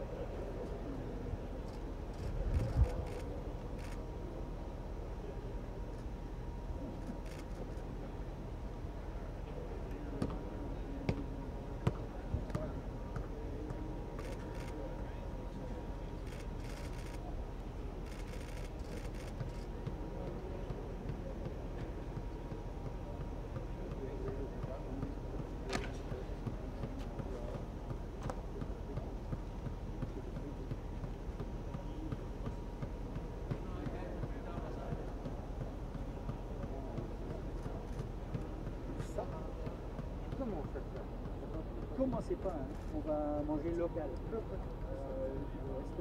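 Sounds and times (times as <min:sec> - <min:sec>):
faint distant voices: 0:00.0 - 0:46.0
low background hum: 0:00.0 - 0:46.0.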